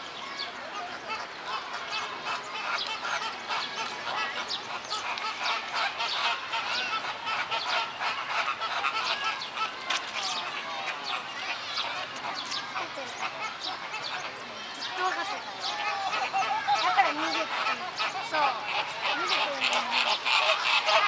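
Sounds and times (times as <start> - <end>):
flock of flamingos honking: 0.2 - 21.0.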